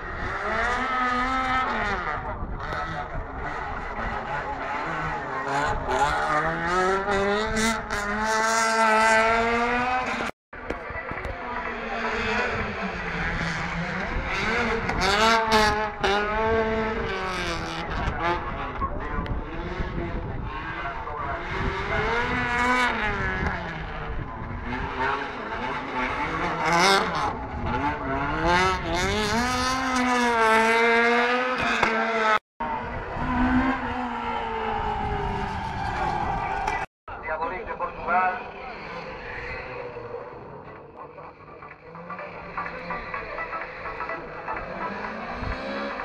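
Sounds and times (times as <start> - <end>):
rally car engines revving: 0.0 - 46.0.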